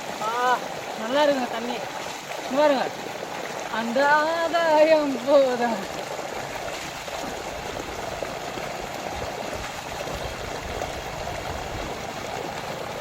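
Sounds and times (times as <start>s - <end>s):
water rushing in channel: 0.0s - 13.0s.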